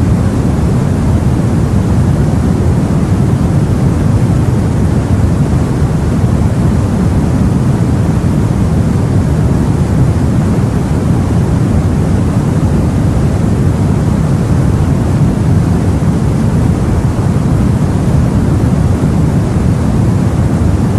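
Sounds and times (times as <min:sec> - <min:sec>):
water and wind wash: 0:00.0 - 0:20.9.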